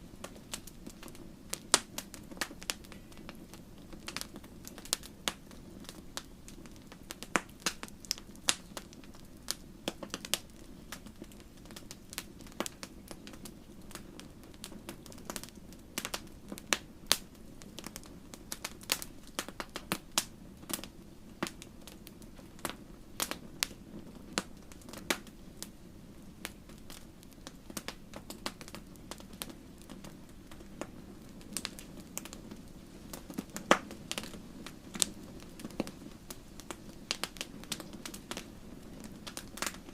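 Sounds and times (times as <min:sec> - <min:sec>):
fire crackling and popping: 0:00.0 - 0:39.9
fire flame rushing: 0:00.1 - 0:39.9.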